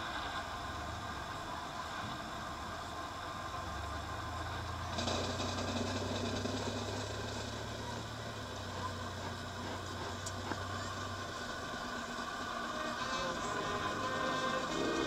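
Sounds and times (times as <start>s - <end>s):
open-air noise: 0.0s - 15.0s.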